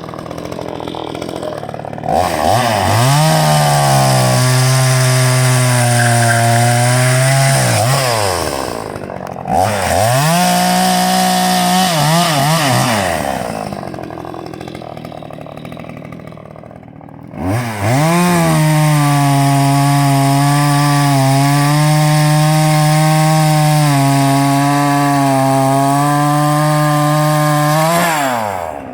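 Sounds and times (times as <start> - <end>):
chainsaw revving and idling: 0.0 - 28.9.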